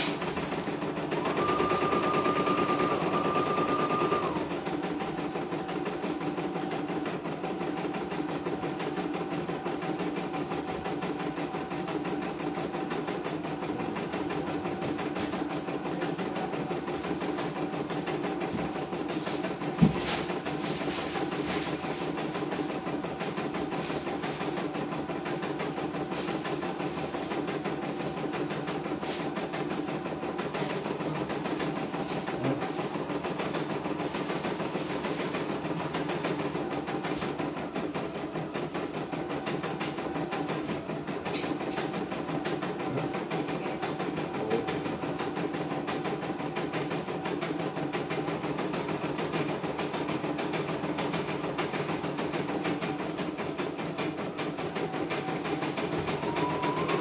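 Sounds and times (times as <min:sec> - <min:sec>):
embroidery machine stitching: 0:00.0 - 0:57.0.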